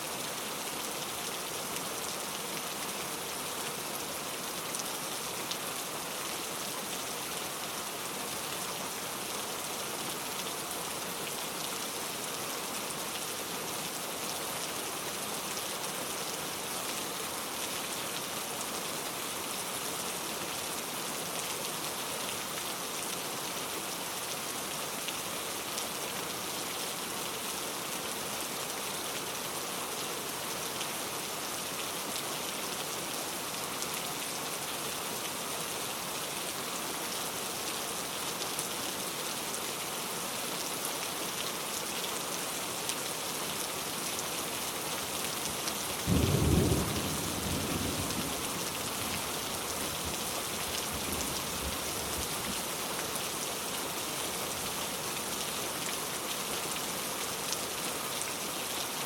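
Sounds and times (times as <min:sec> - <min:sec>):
heavy rain falling: 0:00.1 - 0:59.0.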